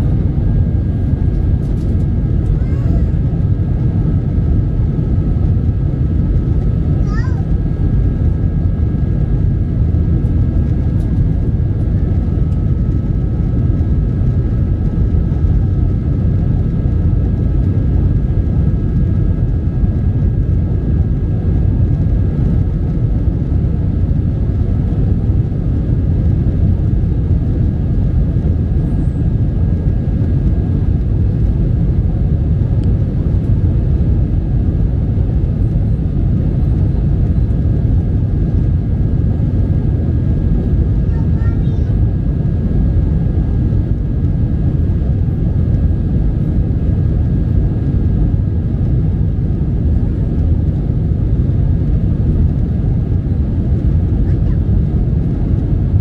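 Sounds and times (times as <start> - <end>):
low engine rumble in cabin: 0.0 - 56.0.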